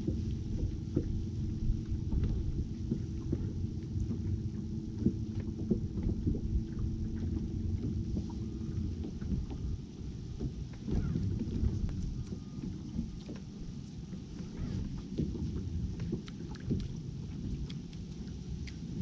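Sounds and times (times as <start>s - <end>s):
faint steady hum: 0.0s - 19.0s
water slapping against hull: 0.0s - 19.0s
wind rumbling on microphone: 0.0s - 19.0s.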